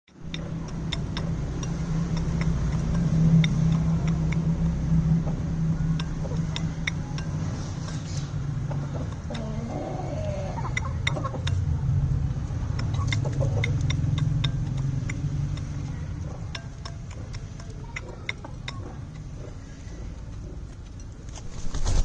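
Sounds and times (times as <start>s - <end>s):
low motor hum: 0.1s - 21.5s.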